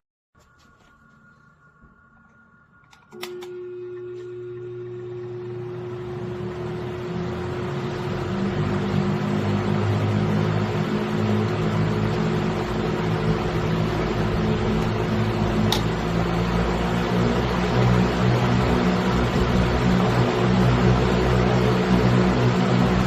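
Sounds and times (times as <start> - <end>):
industrial fan running: 0.8 - 23.0.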